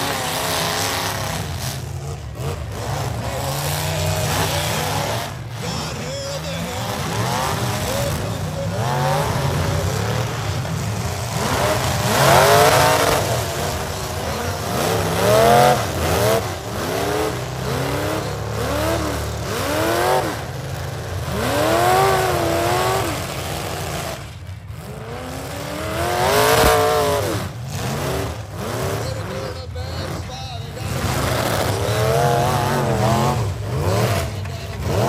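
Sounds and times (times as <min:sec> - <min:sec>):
car engines revving hard: 0:00.0 - 0:35.0.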